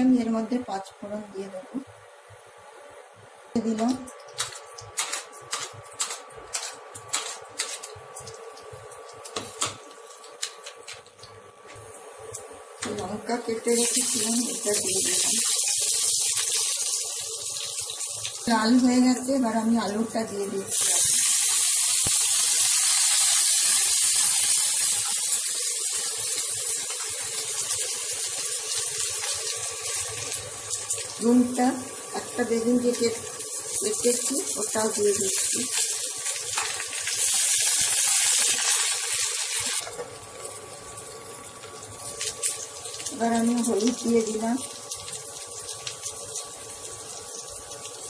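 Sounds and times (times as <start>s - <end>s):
seeds crackling in hot oil: 3.1s - 48.0s.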